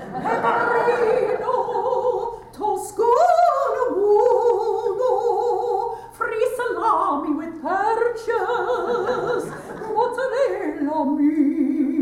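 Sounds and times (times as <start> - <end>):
woman singing operatically: 0.2 - 12.0.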